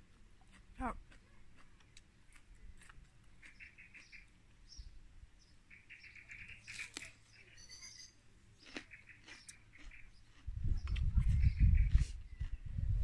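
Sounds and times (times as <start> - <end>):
faint bird chirping: 1.3 - 12.9.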